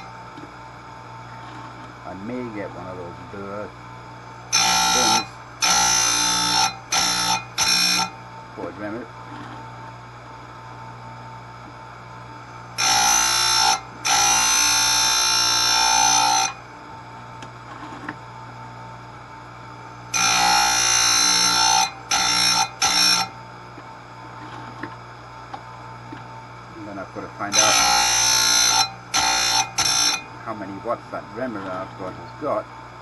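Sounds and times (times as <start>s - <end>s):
grinder motor running: 0.0s - 9.8s, 12.1s - 18.5s, 19.8s - 33.0s
grinding disc high whine: 0.0s - 33.0s.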